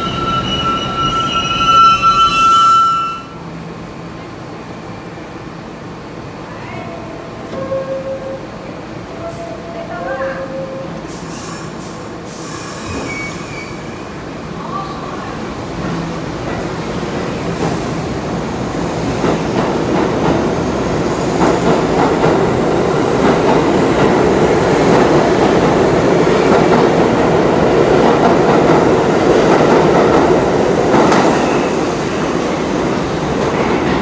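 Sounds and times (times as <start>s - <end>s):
subway train rumbling: 0.0s - 34.0s.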